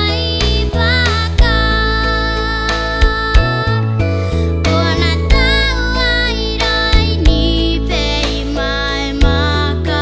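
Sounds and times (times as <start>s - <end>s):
girl singing gospel song: 0.0s - 4.0s, 4.6s - 10.0s
instrumental backing with bass line: 0.0s - 10.0s.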